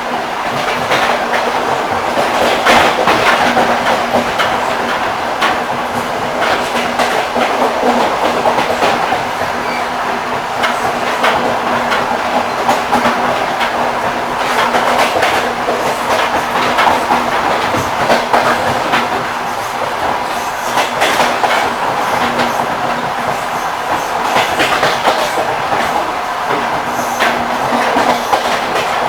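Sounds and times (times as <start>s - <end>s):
train wheels knocking over rail joints: 0.4s - 29.0s.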